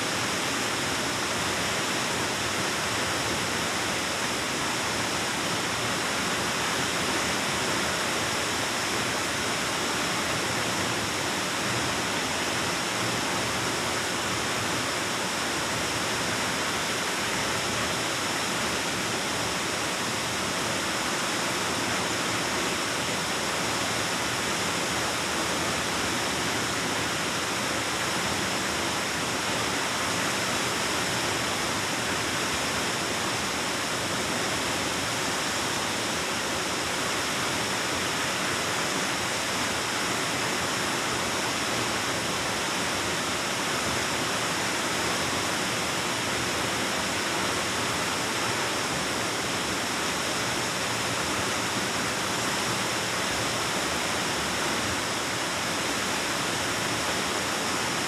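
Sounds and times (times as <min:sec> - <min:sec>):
waterfall rushing into a pool: 0:00.0 - 0:58.0.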